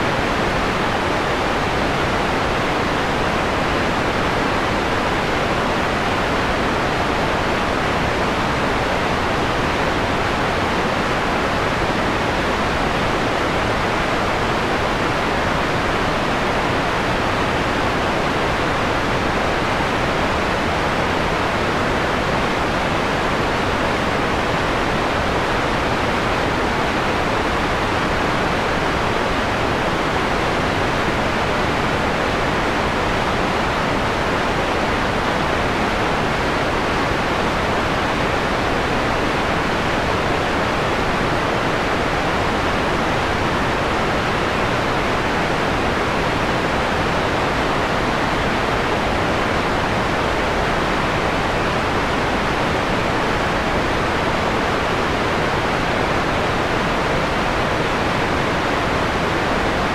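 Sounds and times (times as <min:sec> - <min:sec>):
soft electronic white noise: 0:00.0 - 0:59.9.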